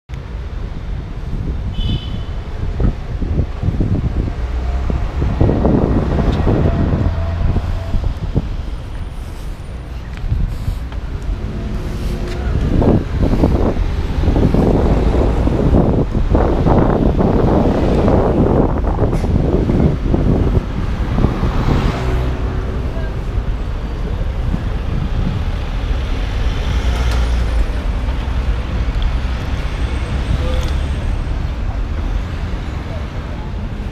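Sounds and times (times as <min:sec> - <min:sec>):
city street traffic: 0:00.1 - 0:33.9
wind buffeting microphone: 0:00.5 - 0:33.9
truck passing: 0:04.4 - 0:33.0.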